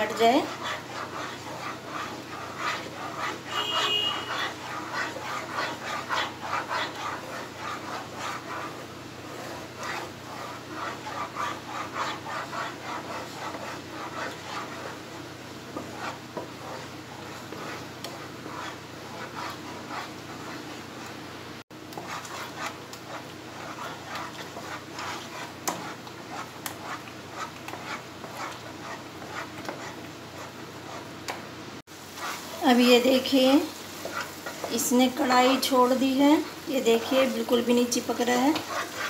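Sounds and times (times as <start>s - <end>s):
wooden spatula scraping sticky mixture: 0.0s - 39.0s.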